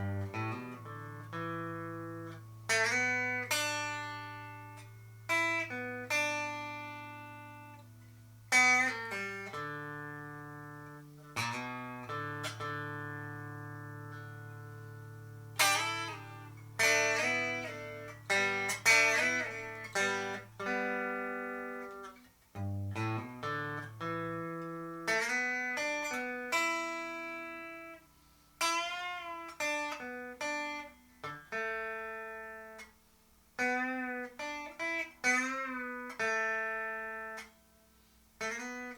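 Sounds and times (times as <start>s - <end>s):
electric guitar notes and chords: 0.0s - 28.0s, 33.6s - 37.5s.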